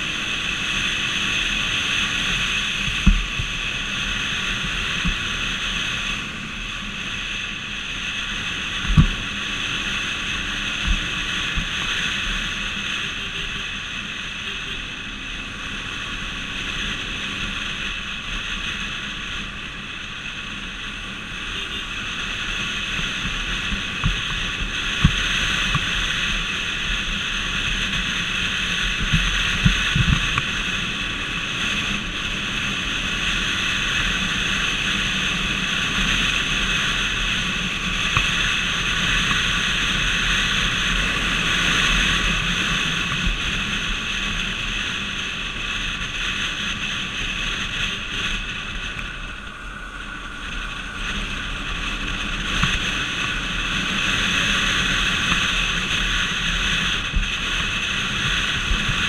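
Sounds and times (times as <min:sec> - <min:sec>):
vehicle road and wind noise: 0:00.0 - 0:59.0.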